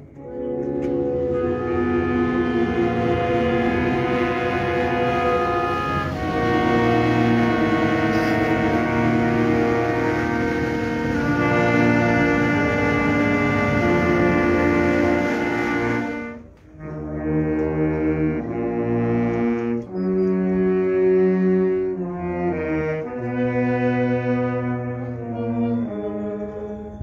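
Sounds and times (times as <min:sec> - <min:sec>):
wind band playing slow chords: 0:00.0 - 0:27.0.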